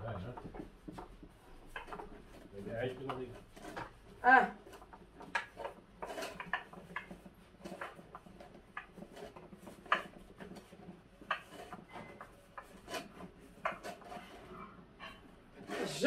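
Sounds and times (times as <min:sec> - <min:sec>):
wooden creaks and rubbing: 0:00.0 - 0:16.0.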